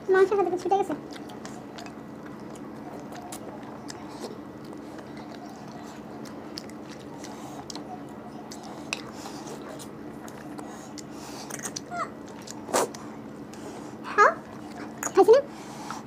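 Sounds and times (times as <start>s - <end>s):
steady low hum: 0.0s - 16.0s
chewing and lip smacks: 0.5s - 13.7s.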